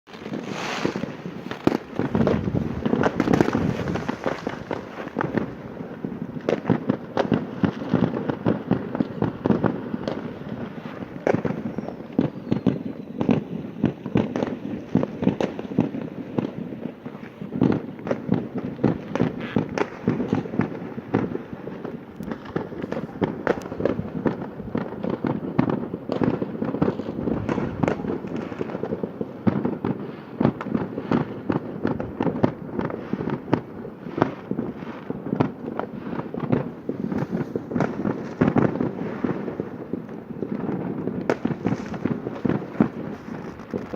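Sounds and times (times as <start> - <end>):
fireworks bangs and pops: 0.1 - 43.9.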